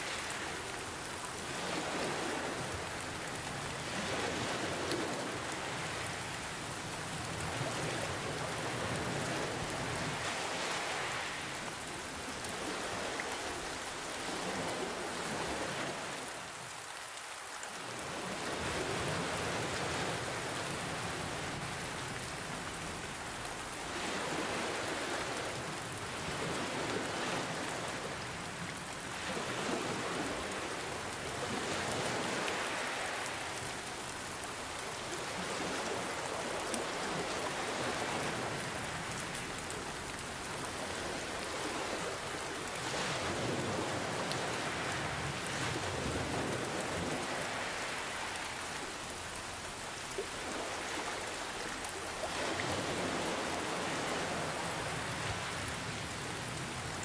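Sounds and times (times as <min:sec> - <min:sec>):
ocean waves: 0:00.0 - 0:57.0
steady rain: 0:00.0 - 0:57.0.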